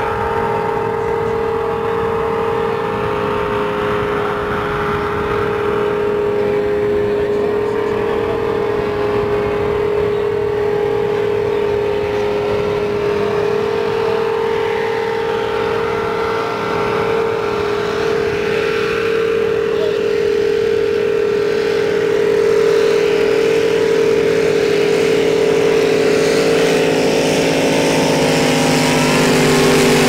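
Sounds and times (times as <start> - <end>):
motorboat engine droning: 0.0 - 30.0.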